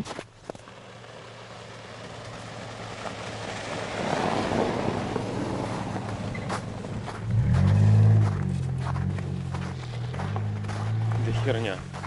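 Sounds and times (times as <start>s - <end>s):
tyres on snow: 0.0s - 12.0s
car engine passing: 0.6s - 12.0s.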